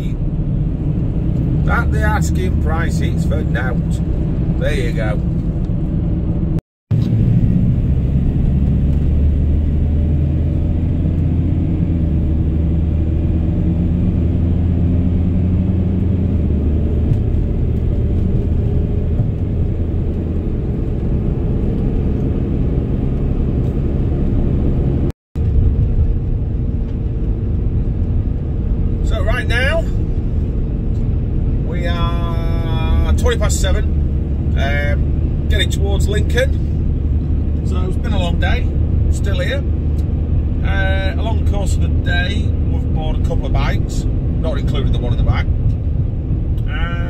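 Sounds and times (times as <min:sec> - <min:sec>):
road and tyre rumble: 0:00.0 - 0:47.0
van engine drone: 0:00.0 - 0:47.0.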